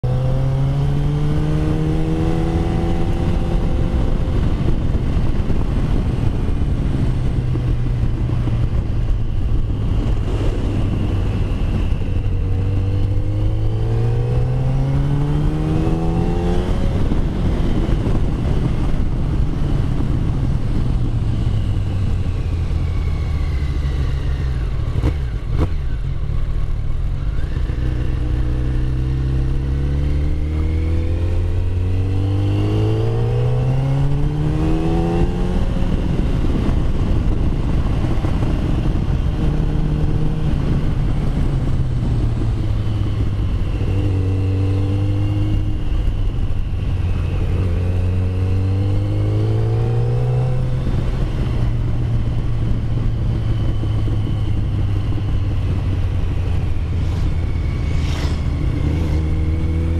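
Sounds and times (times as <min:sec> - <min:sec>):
motorcycle engine revving: 0:00.0 - 0:18.7, 0:19.9 - 0:59.9.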